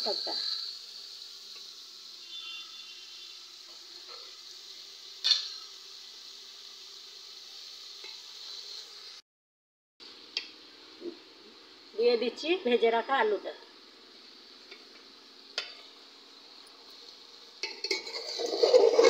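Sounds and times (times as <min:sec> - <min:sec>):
vegetables sizzling in hot oil: 0:00.0 - 0:09.2, 0:10.0 - 0:19.0.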